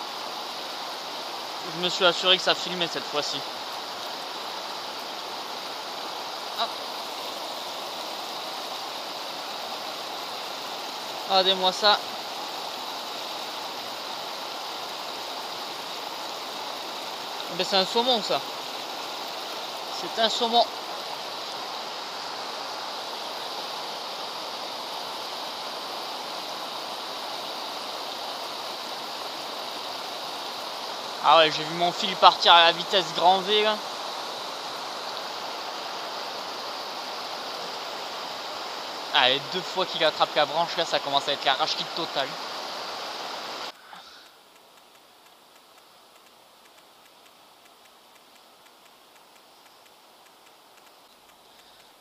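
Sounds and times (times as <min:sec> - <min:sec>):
stream running over stones: 0:00.0 - 0:52.0.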